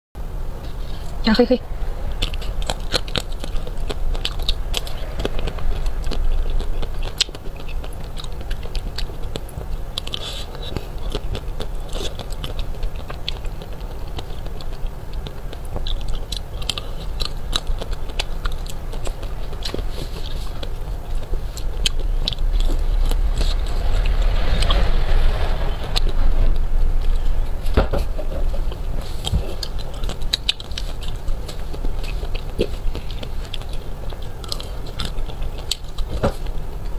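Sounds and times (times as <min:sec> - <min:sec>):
chewing: 0:02.0 - 0:36.9.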